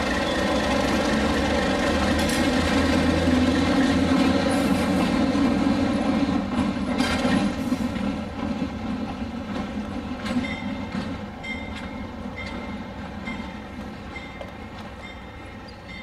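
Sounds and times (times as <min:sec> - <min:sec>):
wheels clicking over rail joints: 0:00.3 - 0:16.0.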